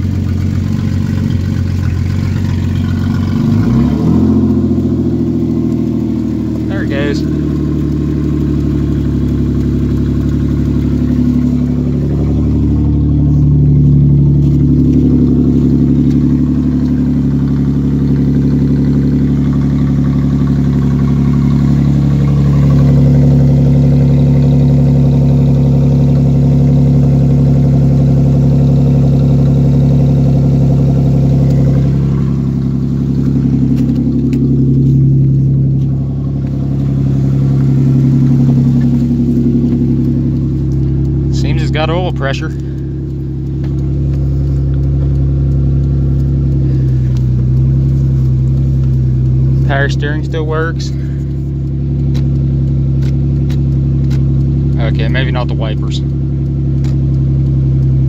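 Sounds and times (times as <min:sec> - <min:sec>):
engine idling without muffler: 0:00.0 - 0:58.0.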